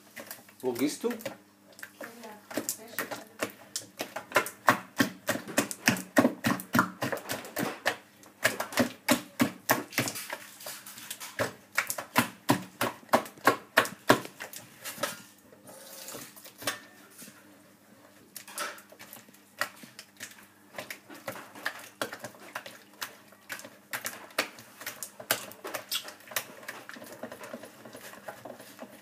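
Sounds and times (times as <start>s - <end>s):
hand beating batter in bowl: 0.0s - 15.2s, 18.4s - 29.0s.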